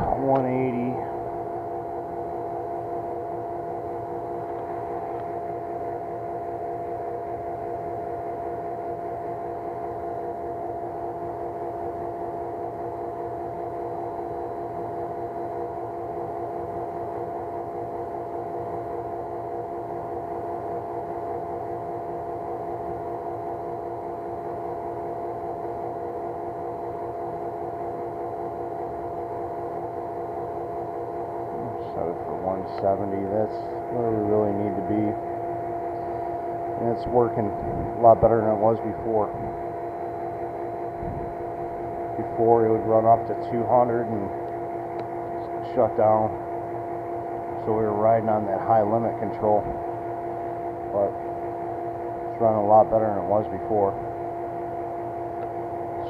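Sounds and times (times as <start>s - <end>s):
heater humming with whine: 0.0s - 56.0s.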